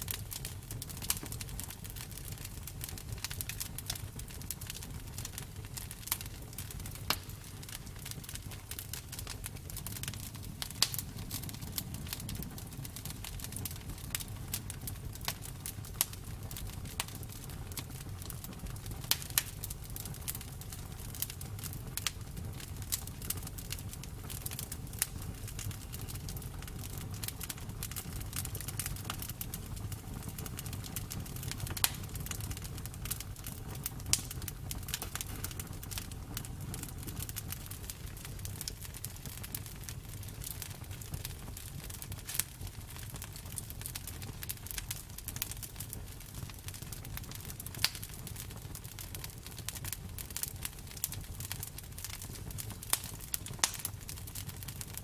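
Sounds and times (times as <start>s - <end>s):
campfire wood crackling: 0.0s - 55.0s
low rumble of flames: 0.0s - 55.0s.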